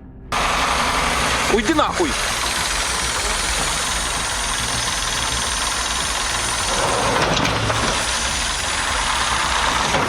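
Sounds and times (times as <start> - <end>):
heavy machine engine running: 0.3 - 10.0.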